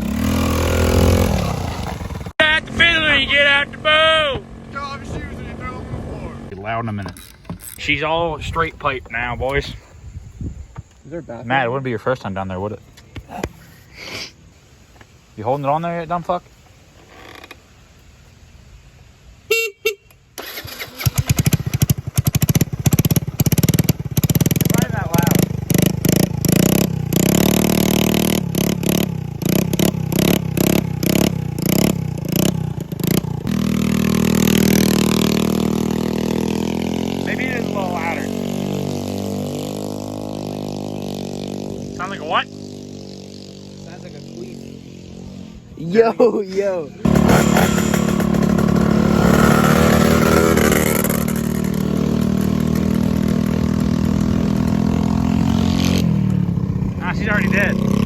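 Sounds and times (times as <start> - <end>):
moped engine revving: 0.0 - 9.5, 20.4 - 58.0.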